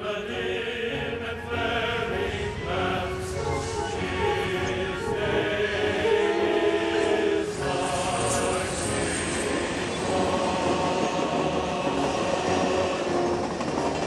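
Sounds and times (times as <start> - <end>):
choir singing: 0.0 - 14.0
musical accompaniment: 0.0 - 14.0.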